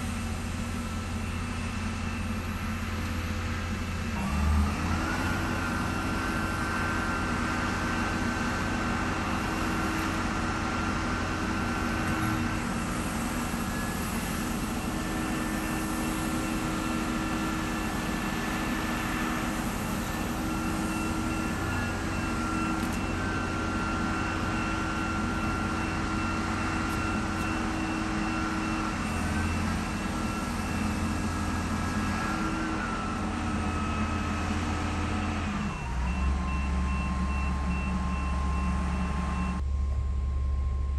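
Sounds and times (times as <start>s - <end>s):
motor hum with high whine: 0.0s - 40.9s.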